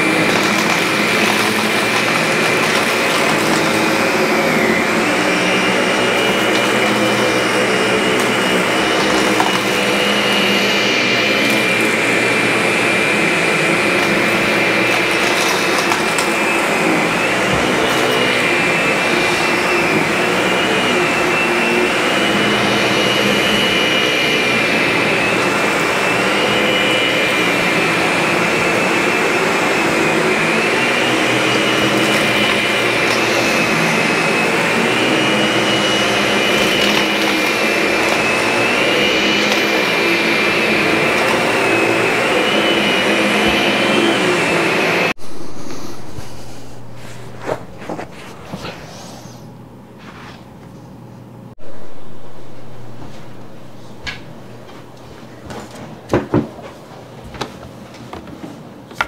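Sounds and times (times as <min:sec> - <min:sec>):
vacuum cleaner running: 0:00.0 - 0:50.5, 0:51.5 - 0:59.0.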